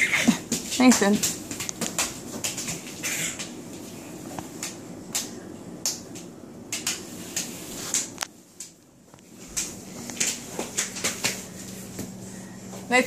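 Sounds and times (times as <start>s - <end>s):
children's hands patting tile floor: 0.0s - 12.9s.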